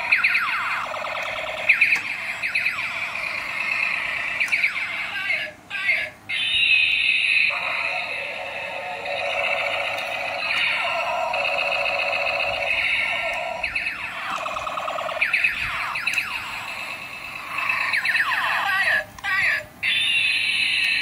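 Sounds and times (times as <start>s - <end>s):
toy electronic sound effects: 0.0s - 5.1s, 6.3s - 19.0s, 19.8s - 21.0s.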